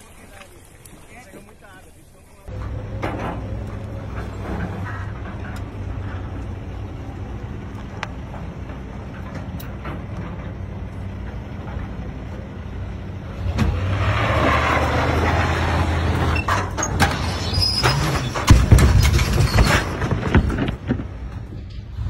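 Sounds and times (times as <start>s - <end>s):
wheels spinning in dirt: 0.0s - 22.0s
truck engine revving: 2.5s - 22.0s.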